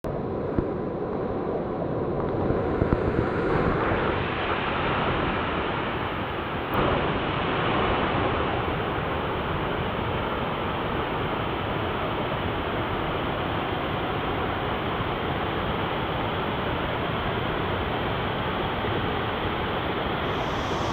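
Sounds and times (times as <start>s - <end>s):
small waterfall rushing: 3.6s - 20.9s.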